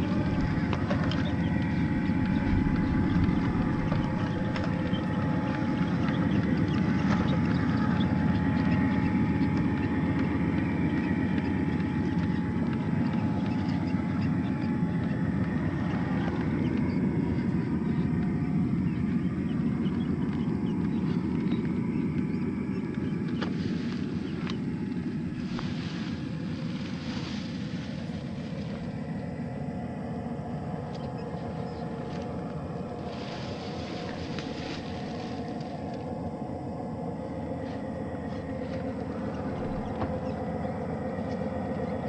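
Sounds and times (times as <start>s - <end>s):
toy car motor rumble and whine: 0.0s - 42.0s.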